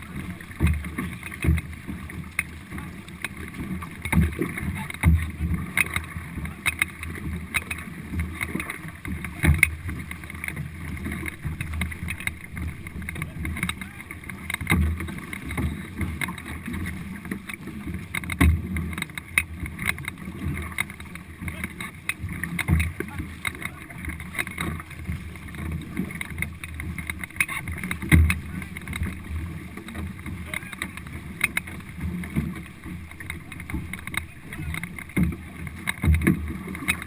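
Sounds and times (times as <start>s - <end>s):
canoe paddles splashing: 0.0s - 37.0s
water washing along hull: 0.0s - 37.0s.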